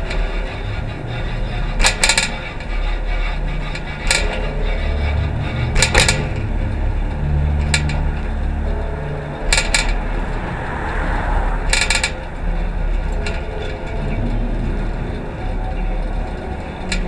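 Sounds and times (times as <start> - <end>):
bicycle parts clanking and rattling: 0.0 - 17.0
low rumble of bicycle ride: 0.0 - 17.0.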